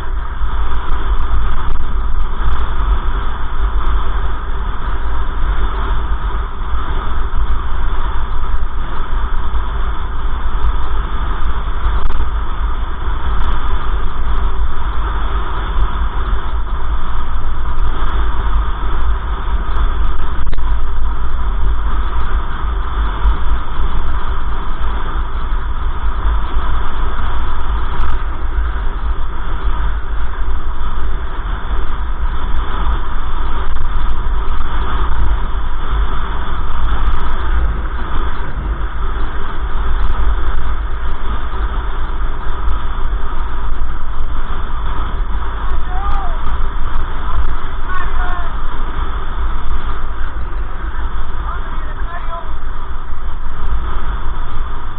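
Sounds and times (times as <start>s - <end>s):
car road and engine noise: 0.0s - 54.9s.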